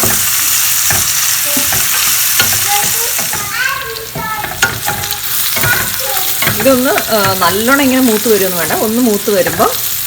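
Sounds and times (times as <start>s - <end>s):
spoon scraping and tapping pan: 0.0s - 10.0s
vegetables sizzling in hot oil: 0.0s - 10.0s.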